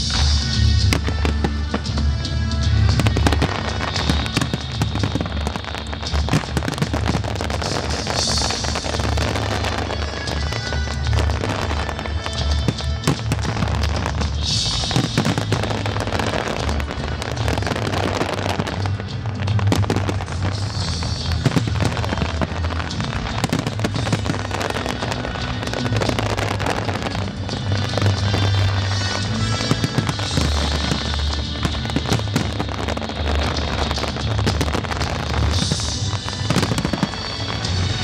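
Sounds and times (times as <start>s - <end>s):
fireworks bursting and crackling: 0.0s - 38.0s
fireworks hissing: 0.0s - 38.0s
loud music with deep bass: 0.0s - 38.0s.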